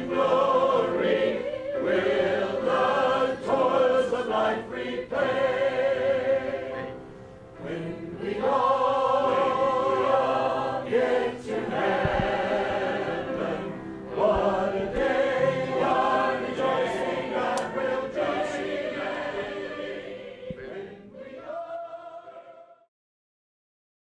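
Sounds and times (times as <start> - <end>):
group singing a hymn: 0.0 - 22.9.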